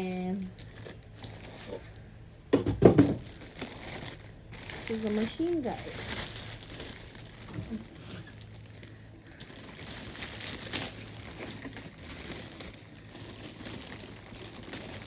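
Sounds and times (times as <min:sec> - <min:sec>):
packaging crinkling: 0:00.0 - 0:02.0, 0:02.8 - 0:15.0.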